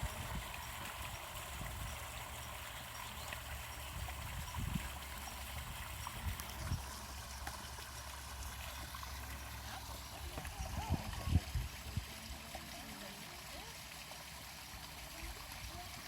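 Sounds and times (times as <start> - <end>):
small waterfall pouring into pond: 0.0 - 16.0.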